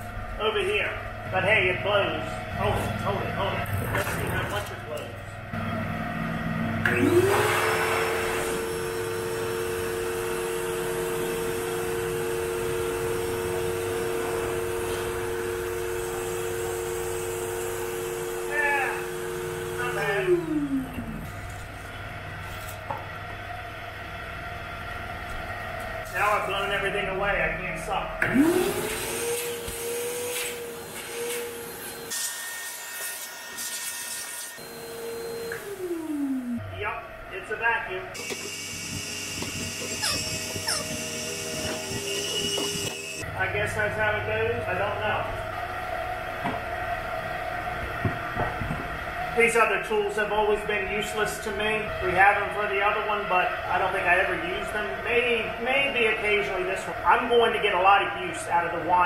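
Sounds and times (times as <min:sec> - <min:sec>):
shop vacuum motor whining: 0:01.4 - 0:23.9, 0:28.2 - 0:57.8.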